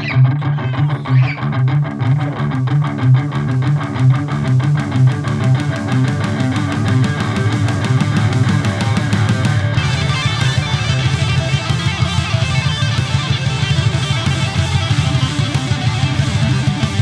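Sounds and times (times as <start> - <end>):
low bass line: 0.0 - 17.0
strummed electric guitar: 0.0 - 17.0.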